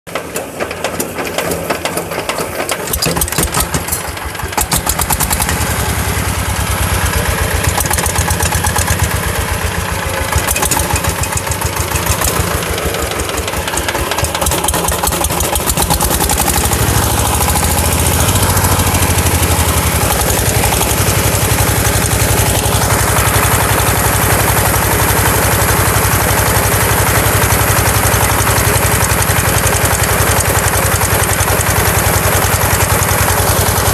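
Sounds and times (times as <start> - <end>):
single-cylinder diesel engine running: 0.1 - 33.9.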